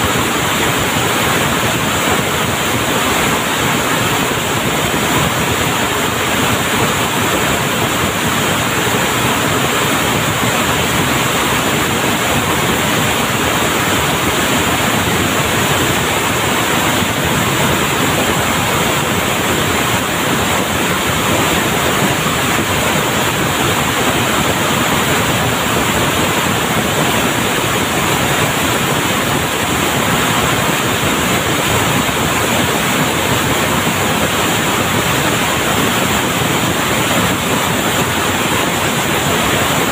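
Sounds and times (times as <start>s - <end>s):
textile mill machinery running: 0.0s - 39.9s.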